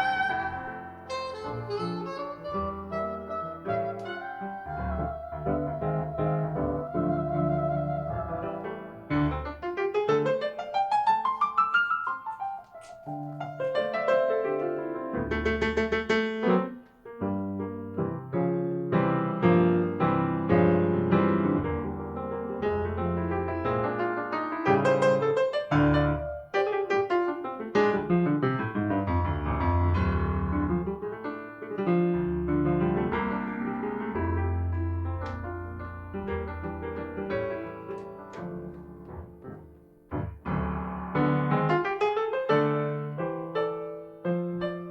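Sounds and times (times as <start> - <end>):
jazz piano playing: 0.0 - 44.9.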